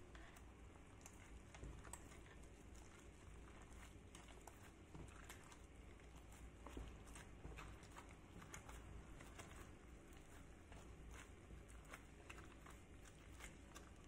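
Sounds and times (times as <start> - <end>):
hand mixing dough in plastic basin: 0.0 - 14.0.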